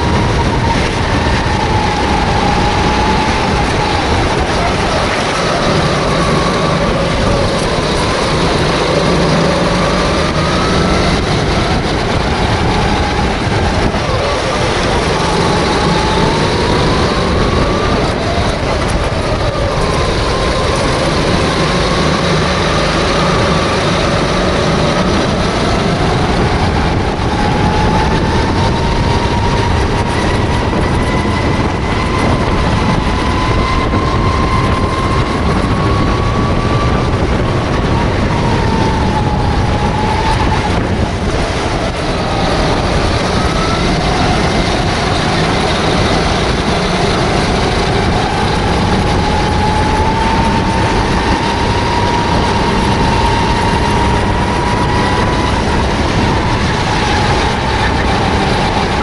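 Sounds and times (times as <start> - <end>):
go-kart engine revving: 0.0 - 59.0
wind rush on microphone: 0.0 - 59.0.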